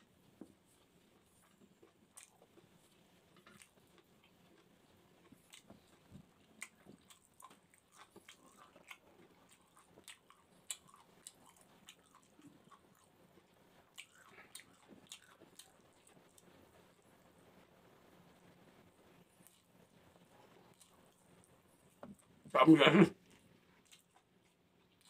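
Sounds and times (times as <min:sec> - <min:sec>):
close-up chewing: 0:00.4 - 0:17.6, 0:19.1 - 0:22.4, 0:23.2 - 0:25.0.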